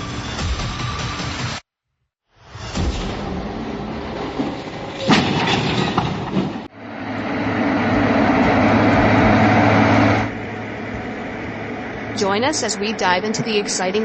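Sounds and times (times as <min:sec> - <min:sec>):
low hum: 0:02.5 - 0:14.0
heavy vehicle engine rumbling: 0:02.8 - 0:14.0.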